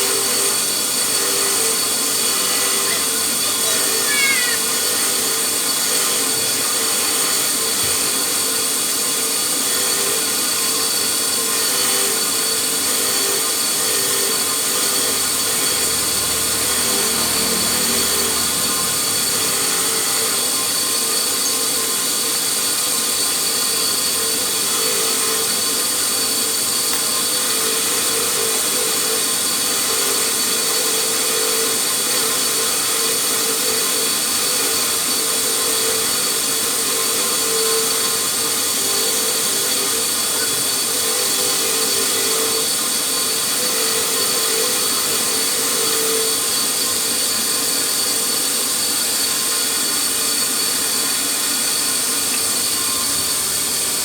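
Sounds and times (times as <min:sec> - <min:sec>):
electric power tool whining: 0:00.0 - 0:54.0.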